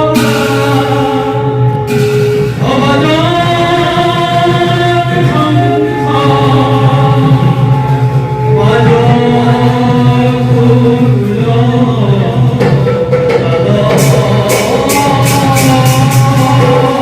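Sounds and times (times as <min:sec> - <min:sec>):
devotional chanting over pa: 0:00.0 - 0:17.0.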